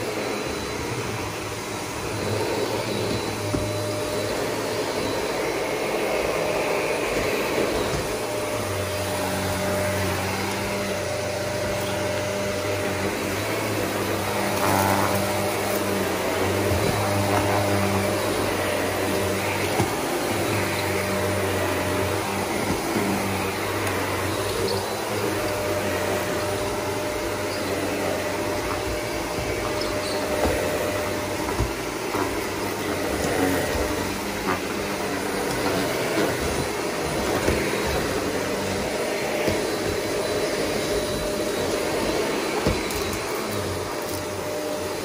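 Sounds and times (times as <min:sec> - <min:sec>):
upright vacuum cleaner running: 0:00.0 - 0:45.0.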